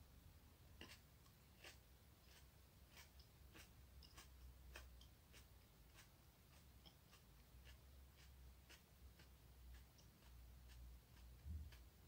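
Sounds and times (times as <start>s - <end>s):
person chewing: 0.8s - 12.0s.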